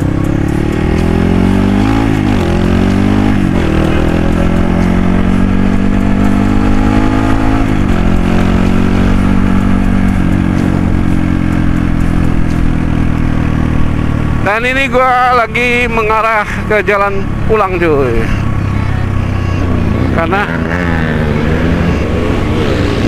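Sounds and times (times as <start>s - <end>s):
dirt bike engine accelerating: 0.0s - 23.0s.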